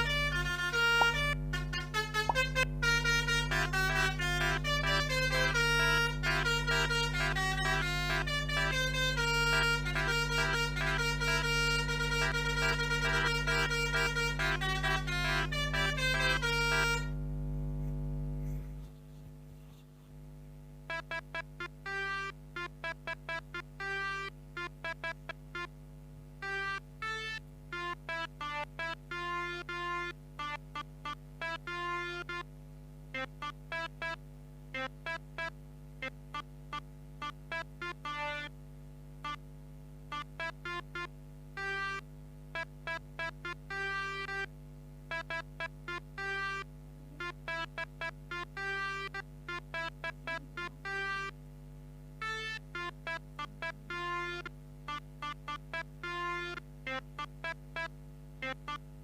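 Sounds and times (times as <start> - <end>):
melodica notes: 0.0 - 17.2, 20.9 - 25.7, 26.4 - 32.4, 33.2 - 38.5, 40.1 - 42.0, 42.6 - 44.5, 45.1 - 51.4, 52.2 - 59.0
steady low hum: 0.0 - 59.0.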